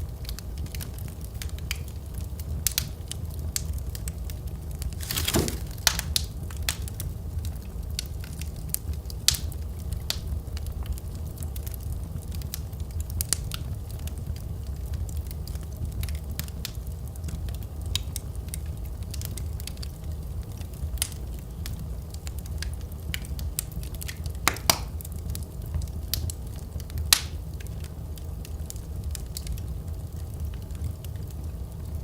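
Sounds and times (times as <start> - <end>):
fire popping and snapping: 0.0 - 32.0
low fire rumble: 0.0 - 32.0
wood fire crackling: 0.0 - 32.0.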